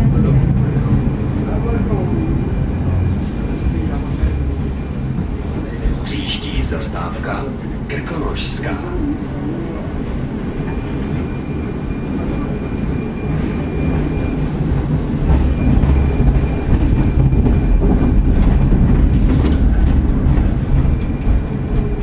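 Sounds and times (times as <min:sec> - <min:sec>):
tram wheels and motors rumbling: 0:00.0 - 0:22.0.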